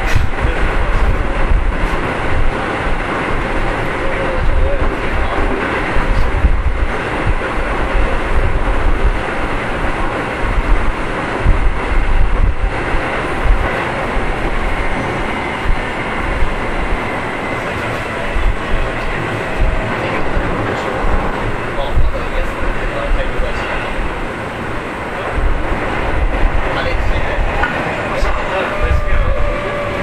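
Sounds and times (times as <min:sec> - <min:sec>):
clickety-clack of rail joints: 0:00.0 - 0:30.0
train wheels rumbling on rails: 0:00.0 - 0:30.0.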